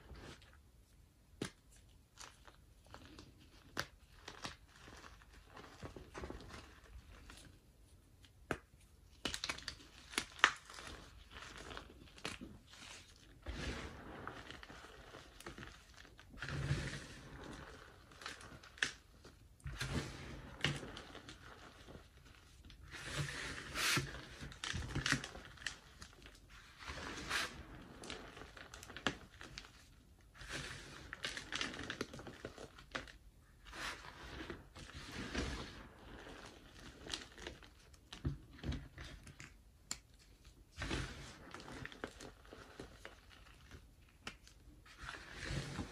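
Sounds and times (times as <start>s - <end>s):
chalk powder crunching and rustling: 1.8s - 8.0s, 9.0s - 38.2s, 40.8s - 45.9s.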